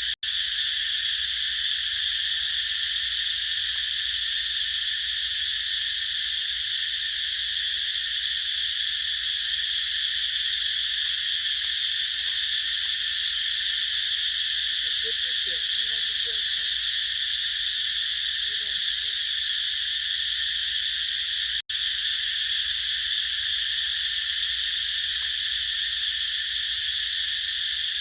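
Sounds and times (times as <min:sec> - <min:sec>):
cicadas buzzing chorus: 0:00.0 - 0:28.0.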